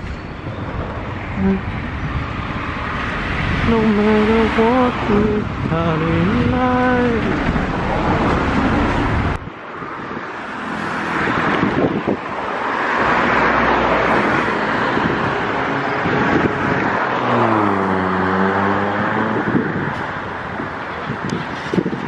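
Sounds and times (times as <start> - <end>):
vehicles passing close by: 0.0 - 22.0.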